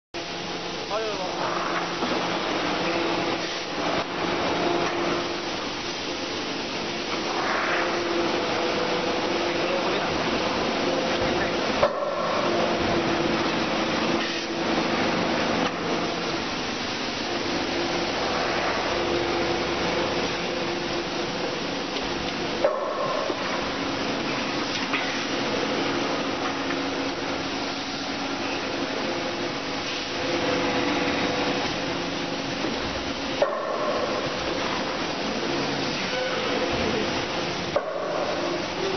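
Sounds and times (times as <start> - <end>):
production line machinery running: 0.2 - 38.9.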